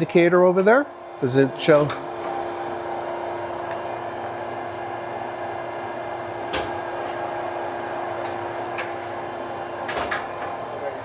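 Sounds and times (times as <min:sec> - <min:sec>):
grinding machine hum: 0:00.0 - 0:11.0.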